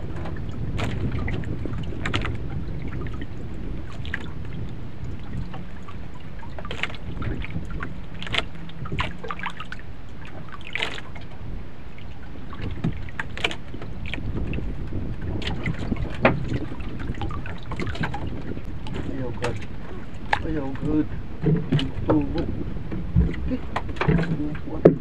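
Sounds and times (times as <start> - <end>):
water slapping against hull: 0.0 - 25.0
wind rumble on microphone: 0.0 - 25.0.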